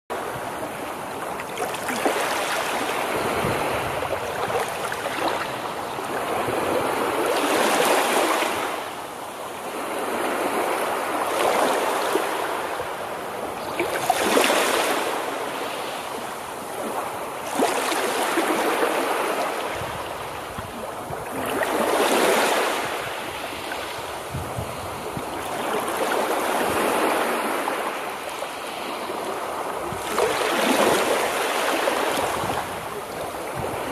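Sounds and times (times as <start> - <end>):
waves washing in and out: 0.1 - 33.9.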